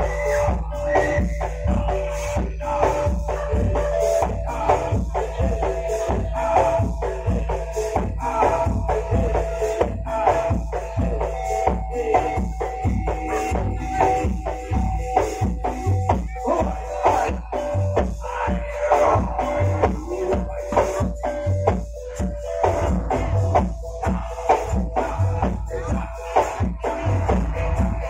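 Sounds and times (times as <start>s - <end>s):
drums and percussion beating: 0.0s - 28.0s
held melody note: 0.0s - 28.0s.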